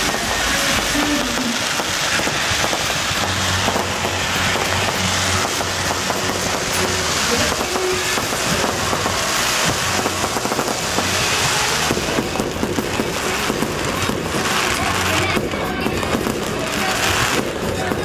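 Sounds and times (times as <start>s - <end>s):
fireworks crackling and popping: 0.0s - 18.0s
hiss of sparks: 0.0s - 18.0s.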